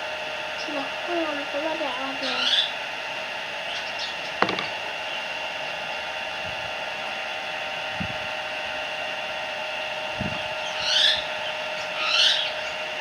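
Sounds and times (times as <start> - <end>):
mechanical whirring hum: 0.0 - 13.0.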